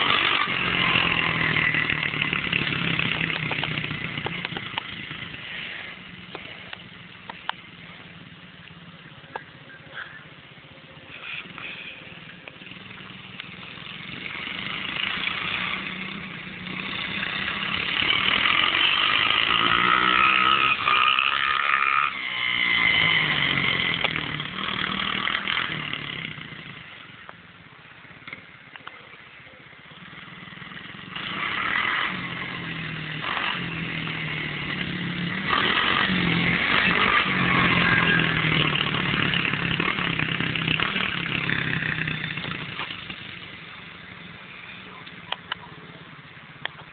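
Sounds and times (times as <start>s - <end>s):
dirt bike engine revving: 0.0s - 27.2s, 30.0s - 45.3s.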